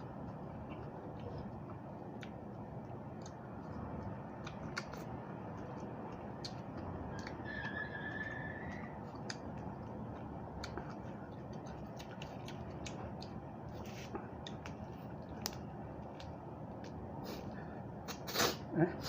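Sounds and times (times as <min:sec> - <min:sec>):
chewing crisp vegetables: 0:00.0 - 0:18.6.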